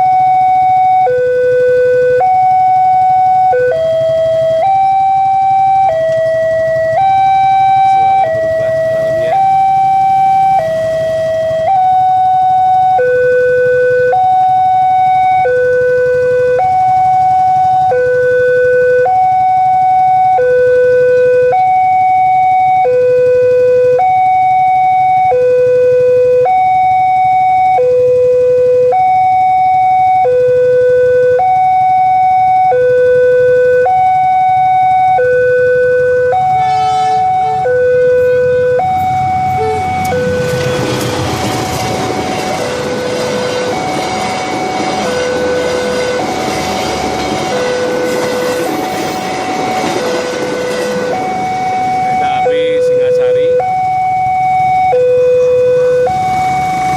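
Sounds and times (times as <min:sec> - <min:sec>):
approaching train: 0:00.0 - 0:56.9
two-tone level crossing alarm: 0:00.0 - 0:56.9.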